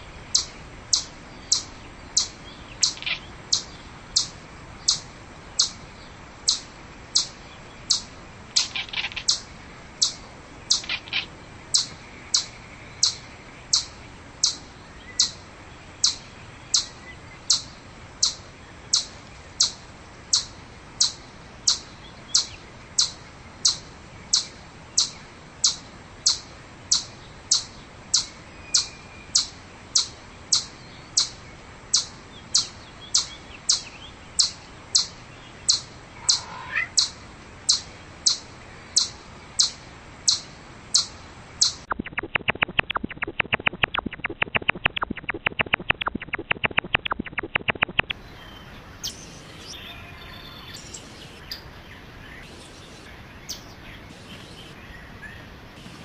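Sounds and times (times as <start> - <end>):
chipmunk chip calls: 0.3 - 5.8, 6.4 - 15.4, 16.0 - 56.0.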